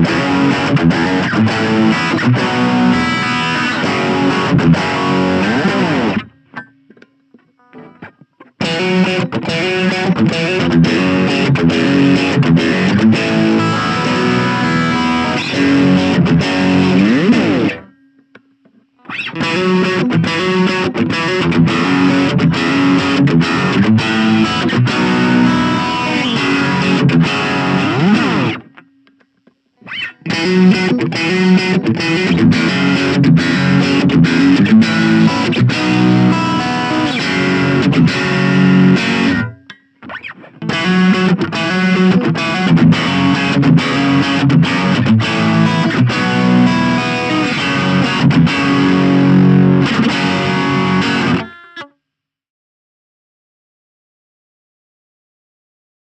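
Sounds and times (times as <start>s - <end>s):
distorted electric guitar riff: 0.0s - 51.9s.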